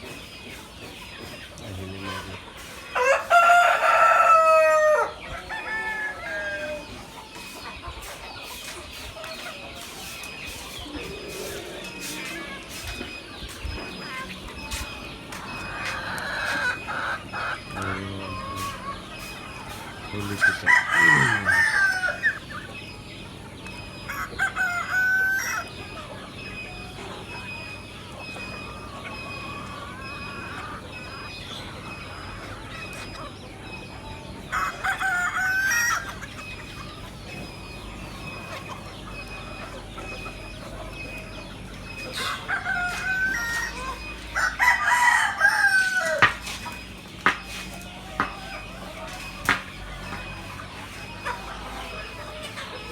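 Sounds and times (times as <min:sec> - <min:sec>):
chickens clucking: 0:00.0 - 0:52.9
roosters crowing: 0:00.0 - 0:52.9.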